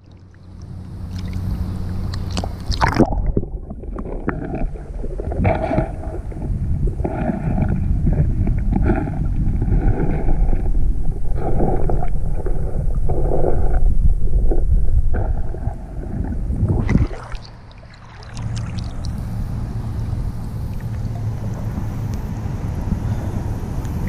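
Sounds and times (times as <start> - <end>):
muffled water gurgling and sloshing: 0.0 - 24.0.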